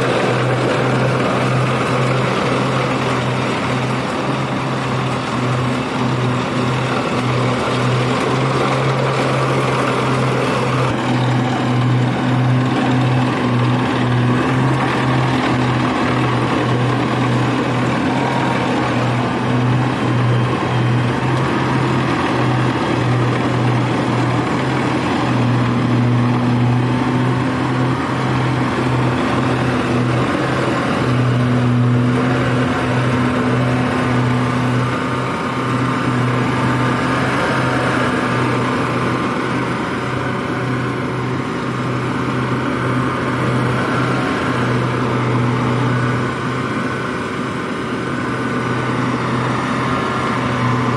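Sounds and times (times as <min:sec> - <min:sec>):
harvester engine droning: 0:00.0 - 0:50.9.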